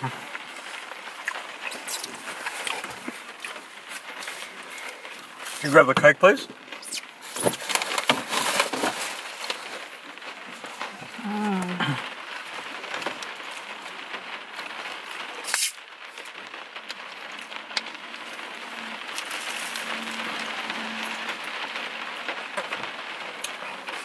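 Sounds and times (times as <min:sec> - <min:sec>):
loud crackle: 0:00.0 - 0:24.0
rain on car roof and windows: 0:00.0 - 0:24.0.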